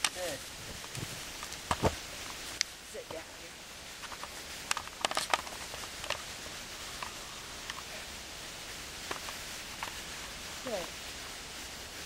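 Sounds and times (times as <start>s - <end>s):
dry leaves crackling underfoot: 0.0s - 12.0s.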